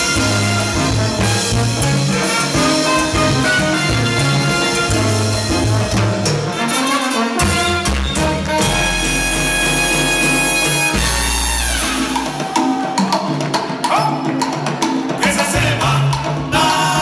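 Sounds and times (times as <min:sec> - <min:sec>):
live salsa band playing: 0:00.0 - 0:17.0.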